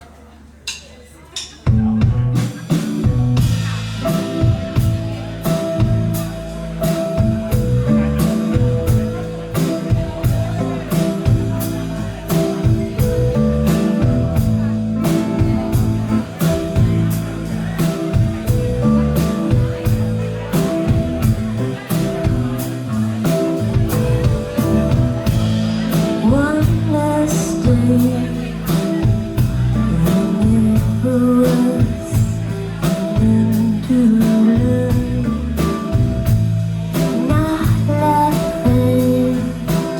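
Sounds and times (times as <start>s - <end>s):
drum kit beat: 1.4s - 39.9s
live band playing pop-rock: 1.4s - 39.9s
guitar: 1.6s - 39.9s
bass guitar notes: 1.7s - 39.9s.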